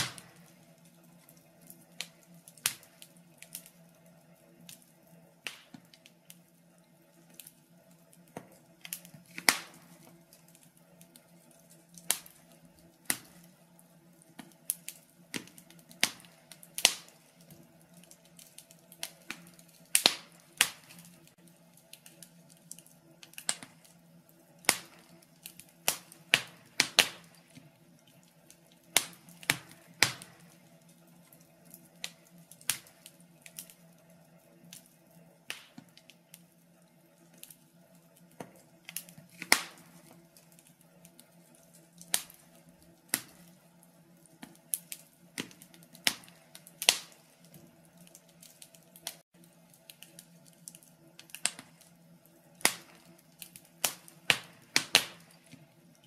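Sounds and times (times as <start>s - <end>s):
fire pops: 0.0s - 36.5s, 37.2s - 56.0s
steady low hum: 0.0s - 56.0s
wood fire crackling: 0.0s - 56.0s.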